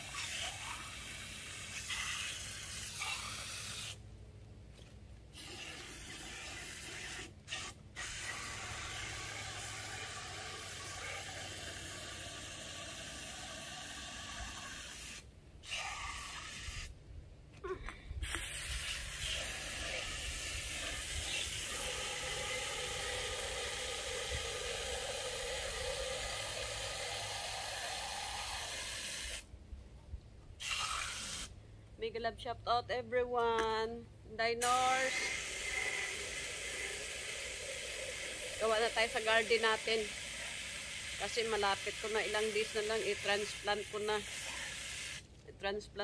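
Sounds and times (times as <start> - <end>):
hose water spraying into cans: 0.0 - 4.0, 5.3 - 16.9, 18.2 - 29.5, 30.6 - 31.6, 34.6 - 45.4.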